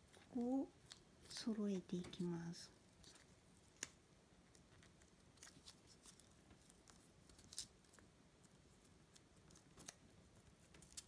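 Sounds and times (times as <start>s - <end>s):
paper crinkling while folded: 0.0s - 11.0s.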